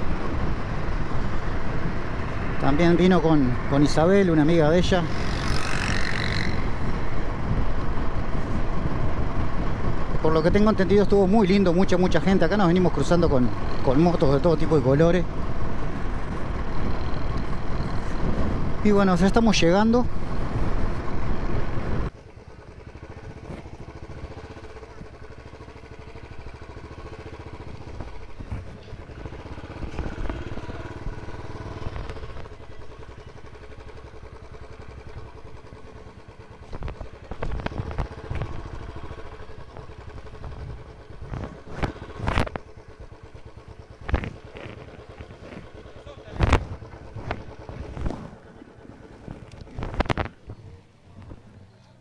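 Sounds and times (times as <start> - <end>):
motorcycle engine: 0.0 - 52.0.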